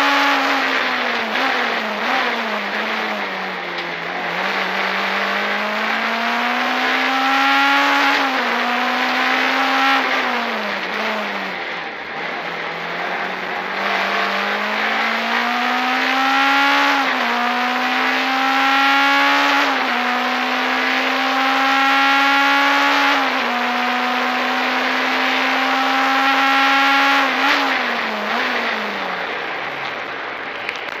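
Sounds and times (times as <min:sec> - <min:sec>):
race car engine at full throttle: 0:00.0 - 0:31.0.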